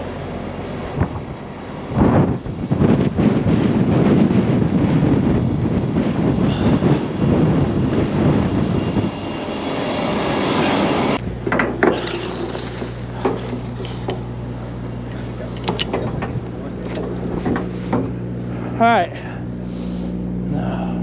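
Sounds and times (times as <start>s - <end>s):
engine idling hum: 0.0s - 21.0s
loud rough rumbling: 0.0s - 21.0s.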